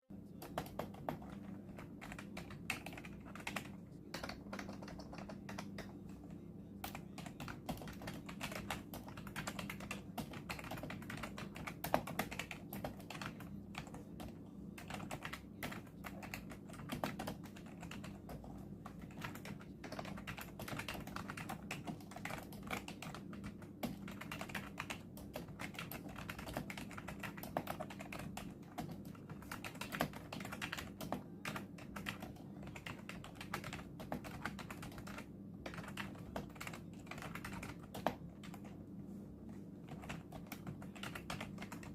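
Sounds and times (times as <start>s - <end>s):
keyboard typing clicks: 0.4s - 38.8s, 39.8s - 41.9s.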